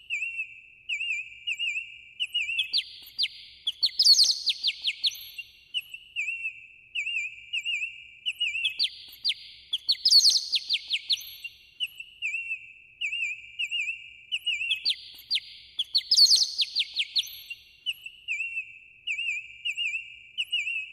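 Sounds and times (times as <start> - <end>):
songbird singing: 0.0 - 20.9.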